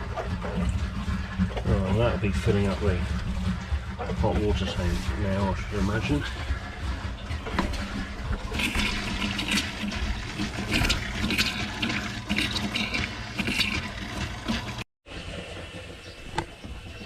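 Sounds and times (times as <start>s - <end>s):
water pump running: 0.0s - 17.0s
water spluttering through pipes: 0.0s - 17.0s.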